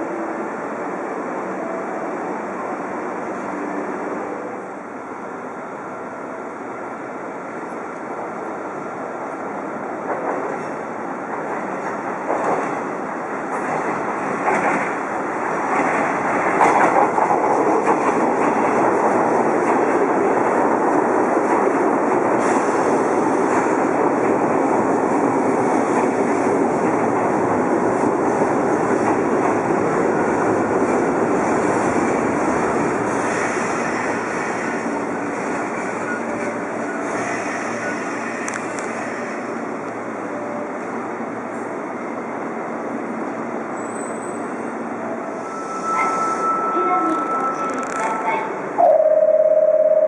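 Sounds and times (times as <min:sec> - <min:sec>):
electric train running on rails: 0:00.0 - 0:50.0.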